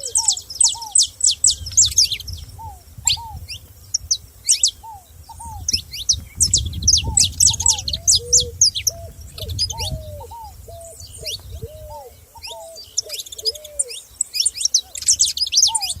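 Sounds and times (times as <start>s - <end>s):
songbirds chirping and singing: 0.0s - 16.0s.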